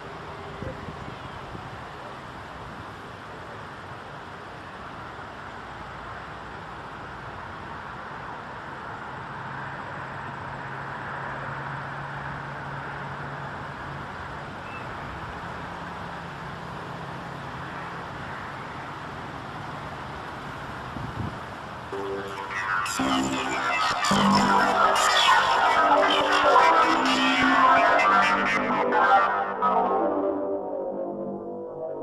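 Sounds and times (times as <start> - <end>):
distant traffic: 0.0 - 30.8.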